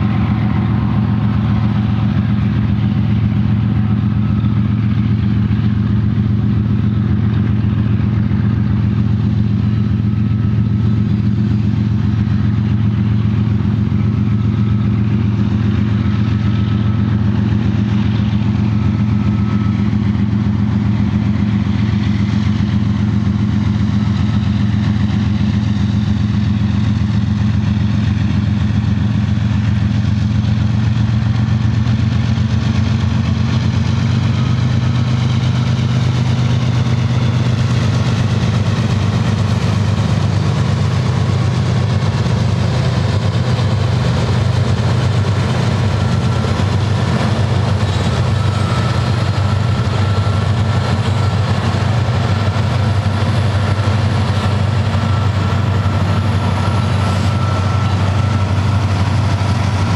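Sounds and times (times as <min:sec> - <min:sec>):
diesel locomotive engine drone: 0:00.0 - 0:59.9
steel wheels rumbling on rails: 0:00.0 - 0:59.9.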